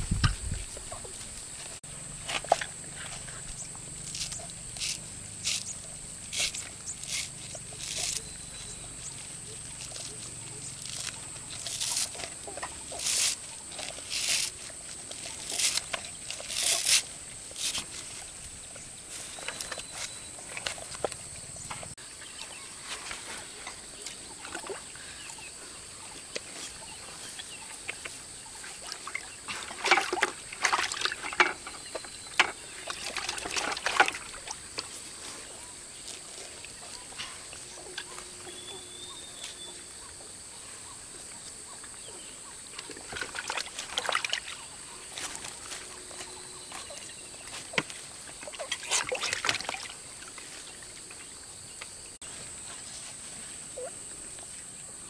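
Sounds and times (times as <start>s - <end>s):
water splashing and sloshing: 0.0s - 38.7s, 41.8s - 52.9s
steady high-pitched hiss: 0.0s - 43.0s, 49.8s - 55.0s.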